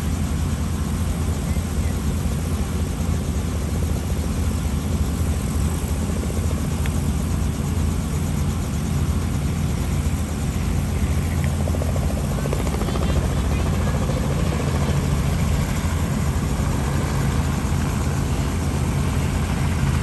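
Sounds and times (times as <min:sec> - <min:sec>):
helicopter idling: 0:00.0 - 0:20.0.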